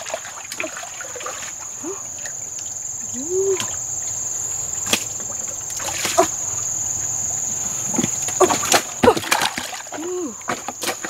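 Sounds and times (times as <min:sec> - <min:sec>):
insects buzzing: 0:00.0 - 0:11.0
water sloshing and splashing: 0:00.0 - 0:11.0.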